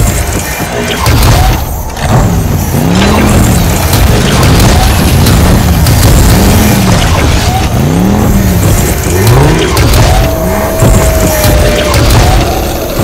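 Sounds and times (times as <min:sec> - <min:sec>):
mechanical whirring whines: 0:00.0 - 0:13.0
heavy low rumble: 0:01.4 - 0:13.0
car engines revving: 0:01.6 - 0:13.0.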